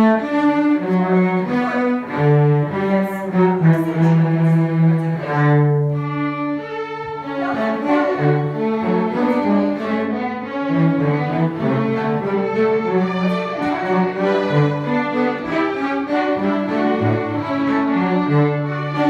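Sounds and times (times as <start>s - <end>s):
bowed strings playing low notes: 0.0s - 19.0s.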